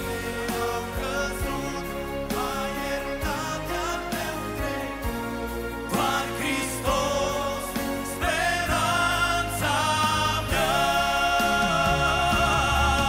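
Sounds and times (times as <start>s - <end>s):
band accompaniment: 0.0s - 13.0s
men singing slow gospel song: 0.0s - 13.0s.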